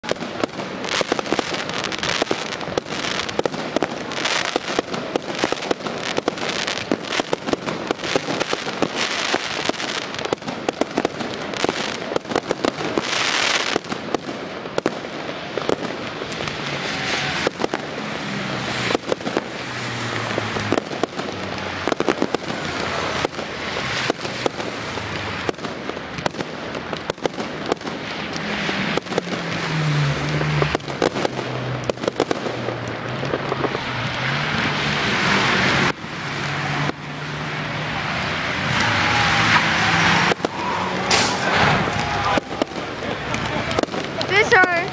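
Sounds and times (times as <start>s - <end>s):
fireworks bangs and crackling: 0.0s - 44.9s
fireworks hissing rushes: 0.0s - 44.9s.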